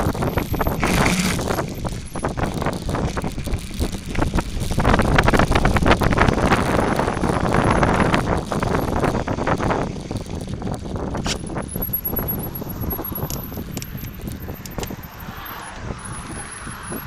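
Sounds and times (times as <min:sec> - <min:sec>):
bike rattling over bumps: 0:00.0 - 0:17.0
bike tyres crunching on dirt: 0:00.0 - 0:17.0
wind rumbling on microphone: 0:00.0 - 0:17.0.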